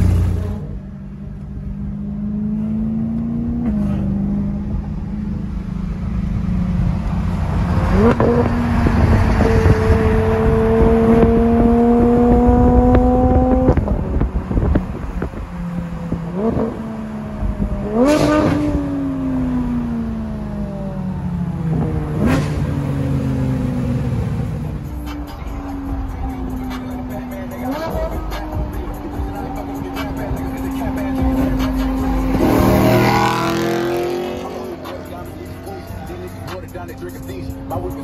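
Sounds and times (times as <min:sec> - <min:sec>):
car engine accelerating: 0:00.0 - 0:38.0
road rumble: 0:00.0 - 0:38.0.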